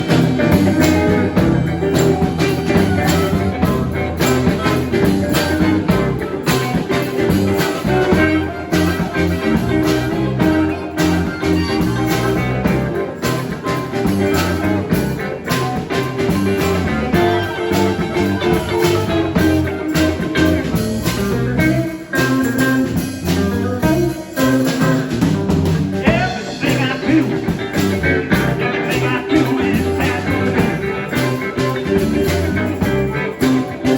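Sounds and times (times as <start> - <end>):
band playing blues music: 0.0 - 33.9
guitar: 0.0 - 33.9.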